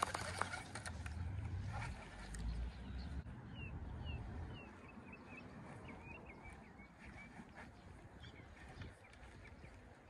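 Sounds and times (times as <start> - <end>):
bird chirping: 0.1 - 10.0.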